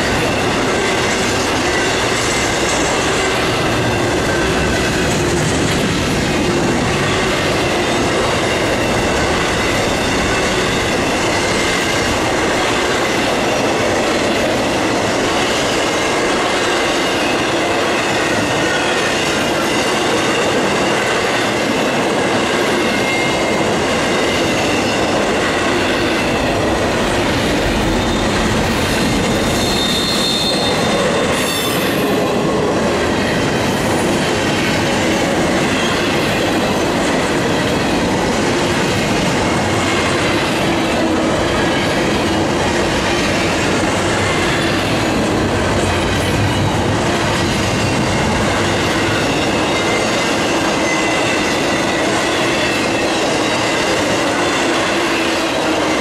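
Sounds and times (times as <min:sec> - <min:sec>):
train wheels rumbling on rail: 0:00.0 - 0:56.0
train wheels squealing: 0:00.0 - 0:56.0.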